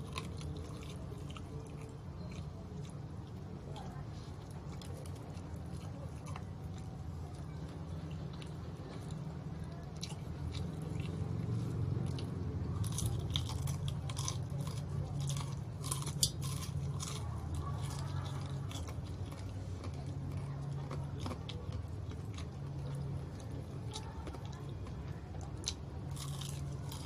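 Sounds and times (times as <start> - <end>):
crunching and chewing fried food: 0.0 - 27.0
steady low hum: 0.0 - 27.0.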